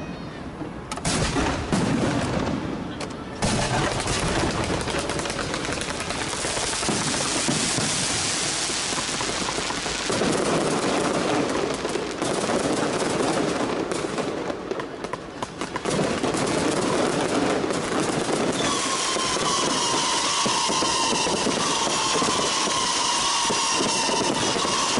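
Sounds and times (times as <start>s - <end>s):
firecrackers crackling: 1.0s - 24.9s.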